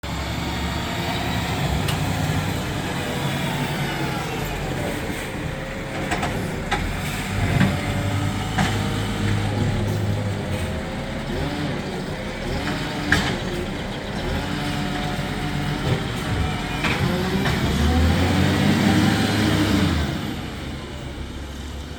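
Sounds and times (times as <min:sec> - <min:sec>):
garbage truck diesel engine: 0:00.0 - 0:21.9.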